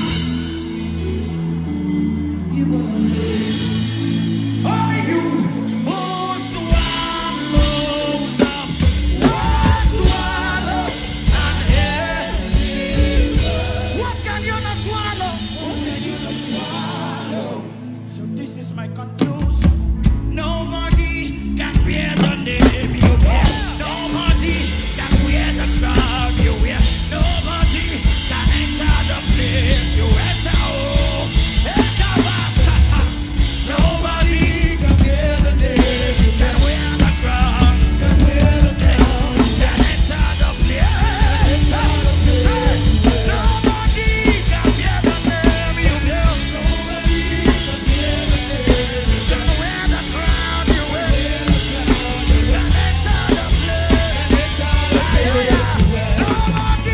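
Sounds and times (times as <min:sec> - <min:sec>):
drum kit: 0:00.0 - 0:17.9, 0:19.0 - 0:56.9
heavy bass: 0:00.0 - 0:56.9
live band music: 0:00.0 - 0:56.9
person singing: 0:00.0 - 0:56.9.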